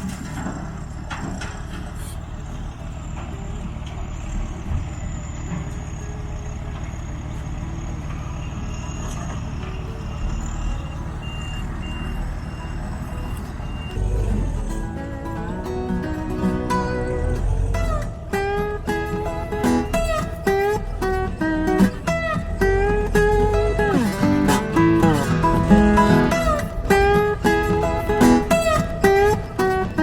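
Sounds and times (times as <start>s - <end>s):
heavy diesel equipment running: 0.0s - 30.0s
reversing alarm beeping: 2.0s - 30.0s.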